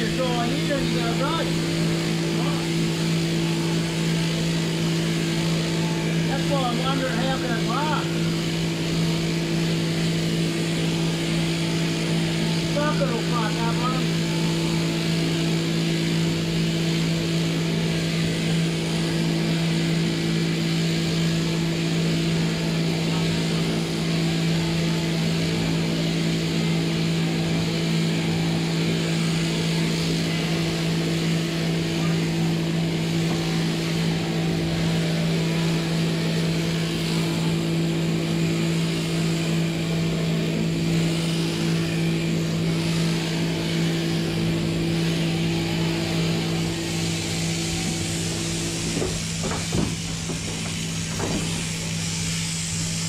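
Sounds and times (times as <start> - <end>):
electric shearing machine humming: 0.0 - 53.0.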